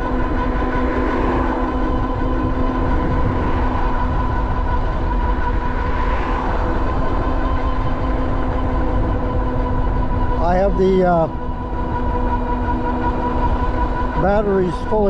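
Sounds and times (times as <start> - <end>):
electric motor whine: 0.0 - 15.0
wind on microphone: 0.0 - 15.0.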